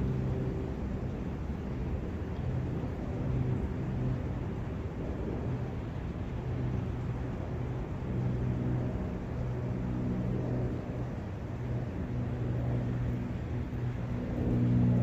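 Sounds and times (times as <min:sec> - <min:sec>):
brook water running: 0:00.0 - 0:15.0
wind: 0:00.0 - 0:15.0.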